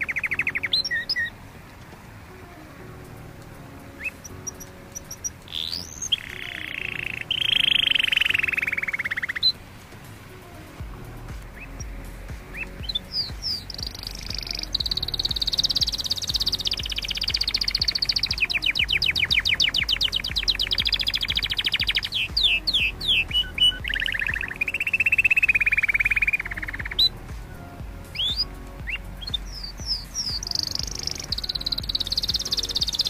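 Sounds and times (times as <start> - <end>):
canary singing trills: 0.0 - 1.4, 3.8 - 9.6, 10.9 - 33.0.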